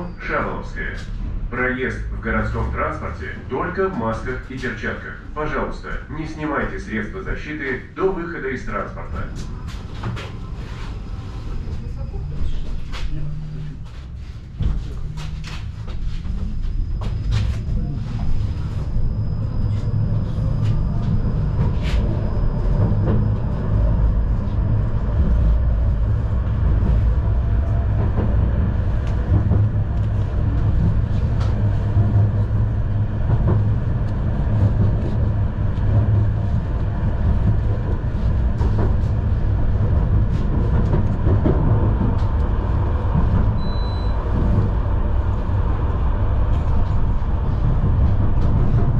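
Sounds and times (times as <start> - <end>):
tram wheels rumbling on rails: 0.0 - 48.9.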